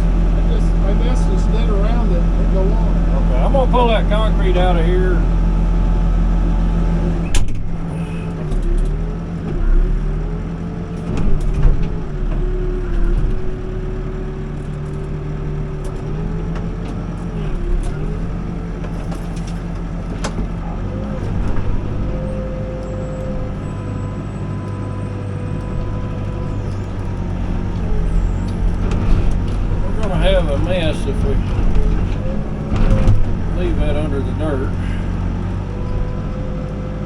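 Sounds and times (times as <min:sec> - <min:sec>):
diesel engine under load: 0:00.0 - 0:37.0.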